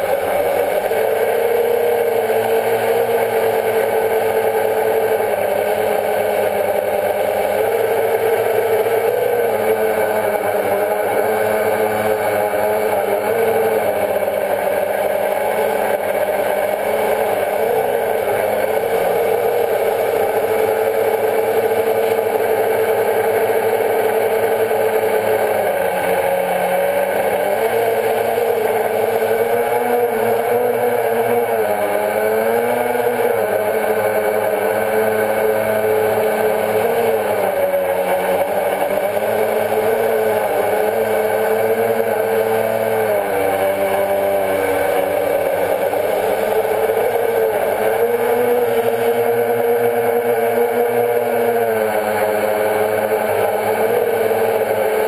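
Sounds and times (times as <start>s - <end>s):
drone propellers whirring: 0.0s - 55.0s.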